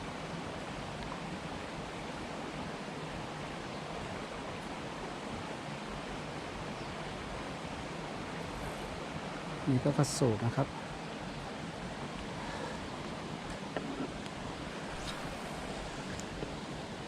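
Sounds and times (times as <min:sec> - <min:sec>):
stream flowing over stones: 0:00.0 - 0:17.0.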